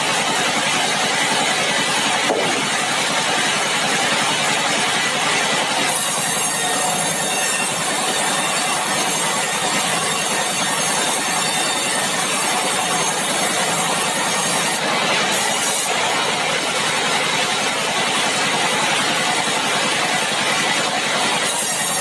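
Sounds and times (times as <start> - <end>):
sawmill machinery running: 0.0 - 22.0.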